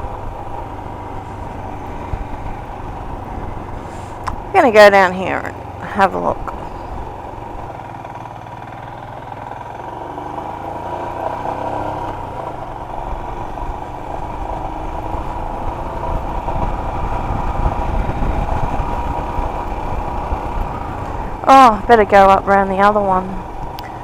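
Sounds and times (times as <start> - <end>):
wind buffeting microphone: 0.0 - 7.8, 12.1 - 24.0
motorcycle engine running: 0.0 - 24.0.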